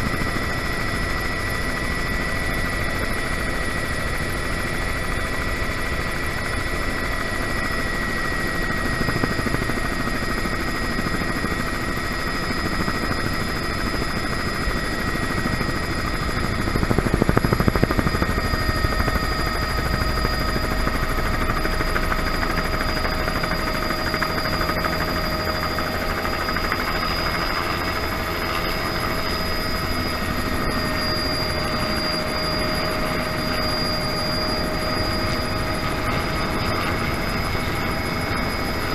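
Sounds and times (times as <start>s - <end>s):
helicopter rotor chop: 0.0s - 38.9s
helicopter turbine whine: 0.0s - 38.9s.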